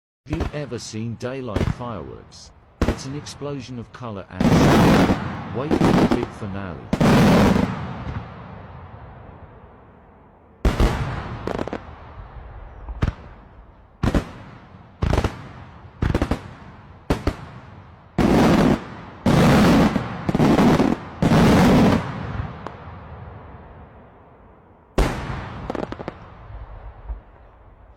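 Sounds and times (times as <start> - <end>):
fireworks bangs: 0.3 - 9.8, 10.6 - 24.0, 25.0 - 27.9.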